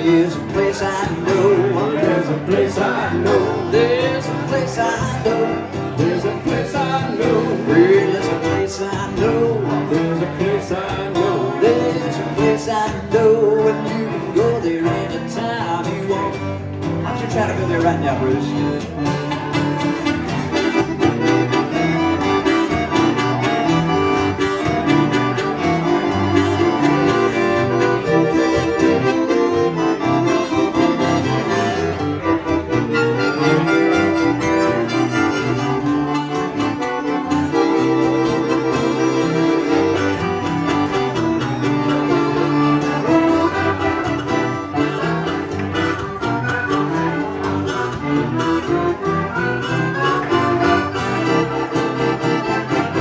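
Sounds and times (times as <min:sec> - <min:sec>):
accordion playing lead: 0:00.0 - 0:53.0
harmonica: 0:00.0 - 0:53.0
strummed guitar: 0:00.0 - 0:53.0.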